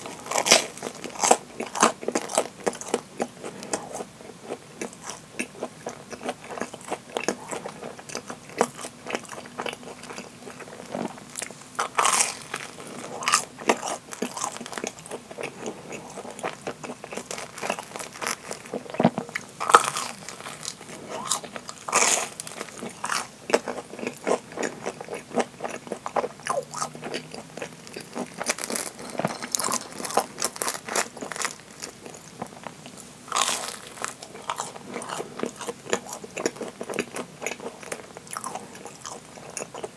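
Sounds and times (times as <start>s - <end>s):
crunchy bread bites and chewing: 0.0s - 39.9s.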